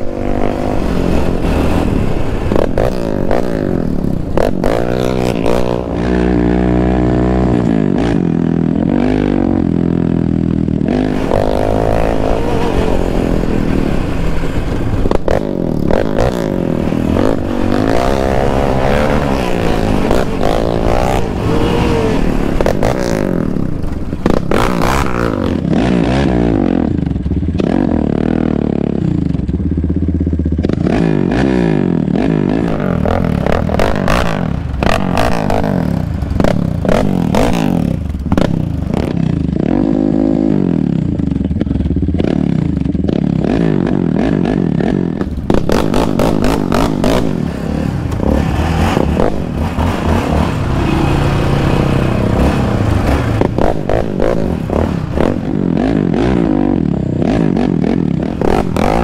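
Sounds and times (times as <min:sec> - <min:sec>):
quad engines revving: 0:00.0 - 0:29.6, 0:30.6 - 0:59.0.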